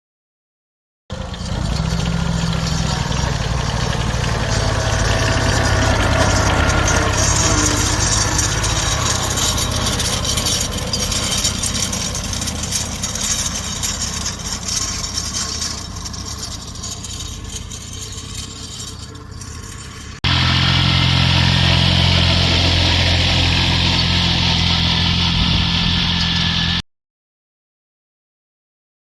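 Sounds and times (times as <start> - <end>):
vehicle engine running: 1.1 - 26.8
hissing rattle: 1.2 - 25.4.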